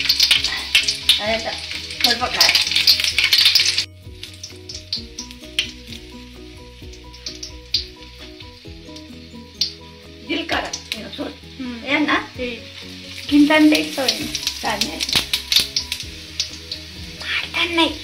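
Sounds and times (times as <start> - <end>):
chillies sizzling in hot oil: 0.0 - 18.0
quiet background music: 0.0 - 18.0.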